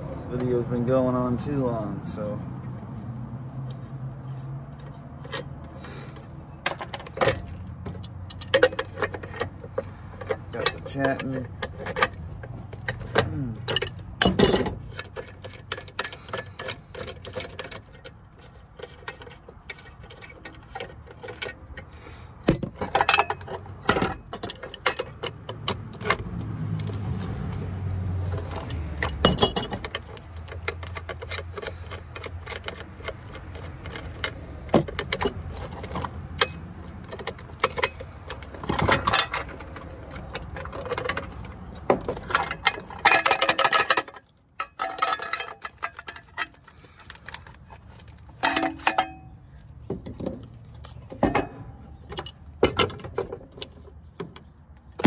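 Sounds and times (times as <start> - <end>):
small metal parts clinking: 4.7 - 27.4, 28.2 - 55.0.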